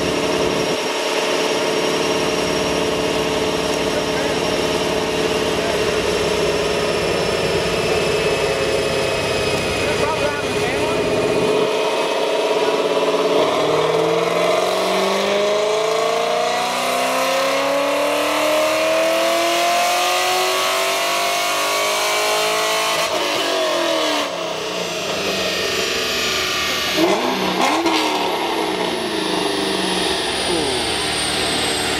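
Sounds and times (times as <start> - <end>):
car engine revving on dyno: 0.0 - 31.9.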